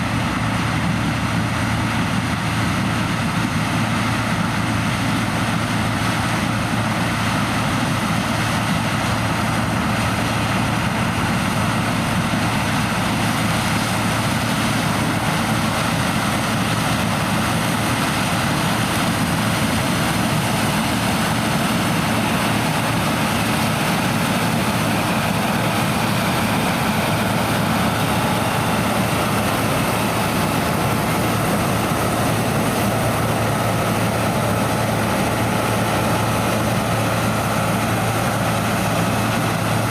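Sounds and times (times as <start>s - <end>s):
combine harvester diesel drone: 0.0s - 39.9s.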